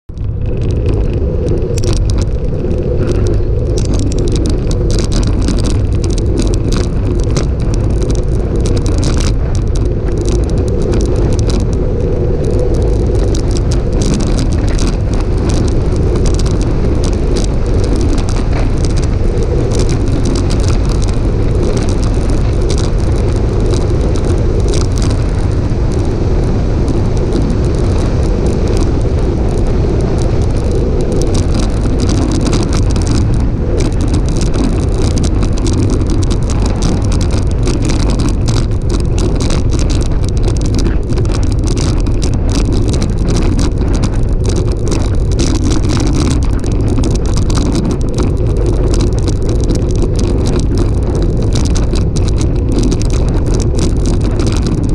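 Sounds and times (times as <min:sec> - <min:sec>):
bike rattles and clicks: 0:00.0 - 0:54.9
wind rushing over microphone: 0:00.0 - 0:54.9.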